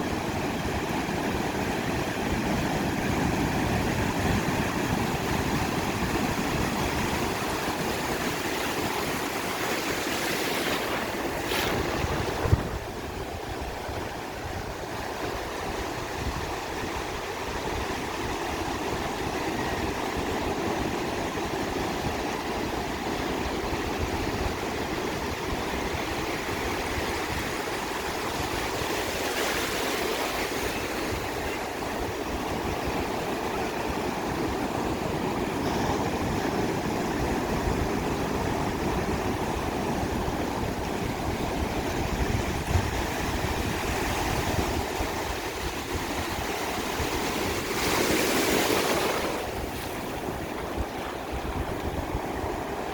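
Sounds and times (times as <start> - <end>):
waves breaking: 0.0 - 16.1, 25.6 - 52.9
surf washing onto beach: 0.0 - 52.9.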